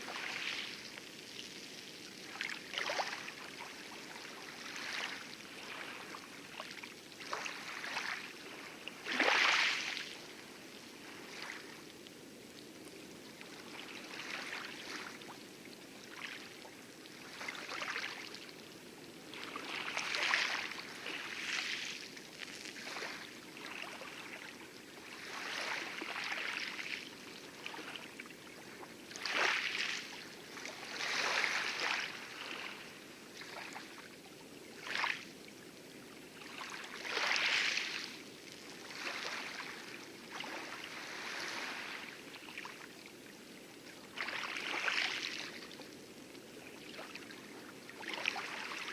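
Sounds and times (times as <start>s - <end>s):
small waves splashing: 0.0s - 48.9s.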